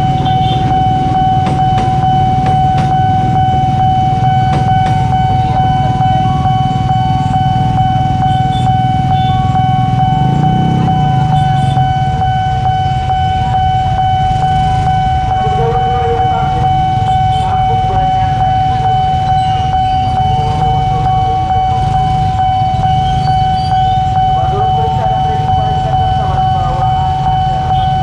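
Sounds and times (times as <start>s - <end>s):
high steady ringing tone: 0.0s - 28.0s.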